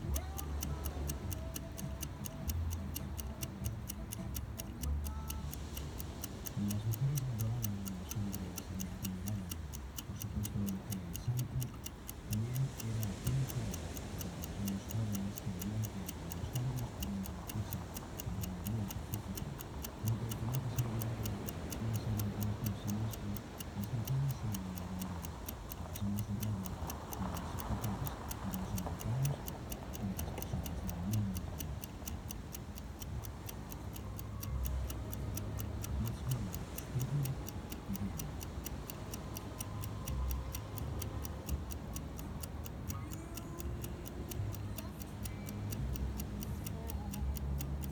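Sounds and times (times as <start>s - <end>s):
fast high-pitched ticking: 0.0s - 47.9s.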